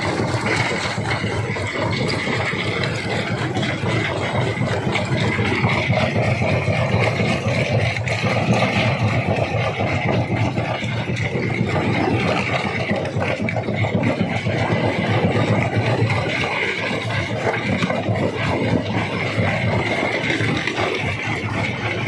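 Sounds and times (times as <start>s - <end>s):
engine drone: 0.0s - 22.0s
rock rattling and crunching: 0.0s - 22.0s.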